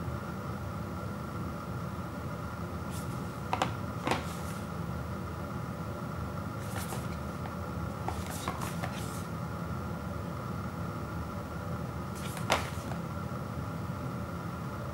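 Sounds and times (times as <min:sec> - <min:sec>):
steady background hum: 0:00.0 - 0:14.9.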